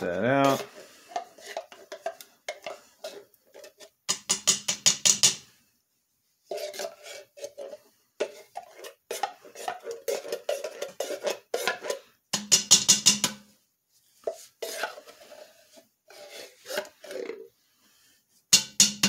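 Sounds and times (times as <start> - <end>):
wooden spoon scraping a tin can: 0.0 - 5.5, 6.4 - 13.0, 13.9 - 19.0.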